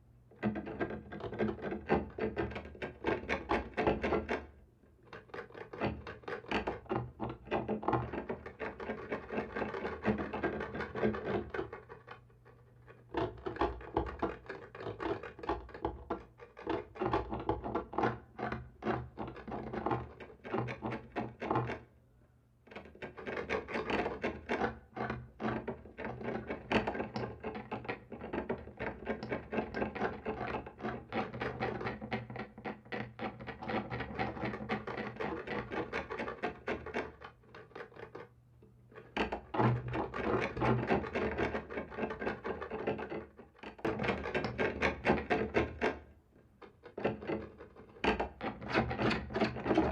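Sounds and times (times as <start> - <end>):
scratching and scraping on wall: 0.4 - 21.9, 22.6 - 49.9.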